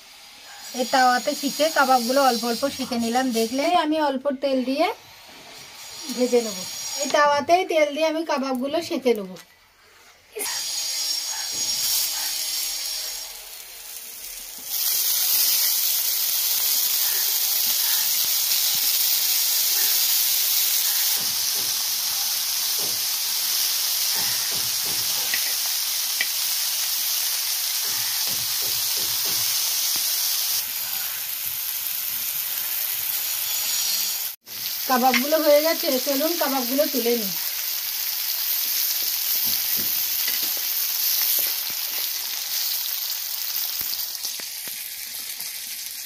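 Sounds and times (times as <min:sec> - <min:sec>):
meat sizzling in hot oil: 0:00.0 - 0:04.0, 0:05.0 - 0:09.1, 0:10.4 - 0:46.0.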